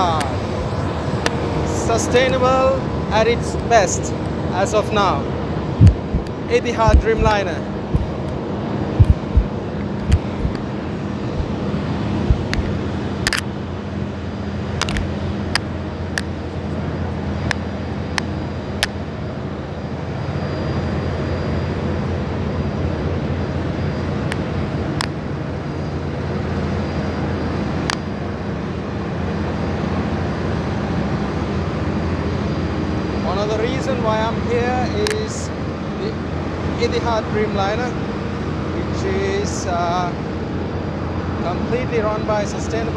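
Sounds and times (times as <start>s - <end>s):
aircraft engine drone: 0.0s - 42.9s.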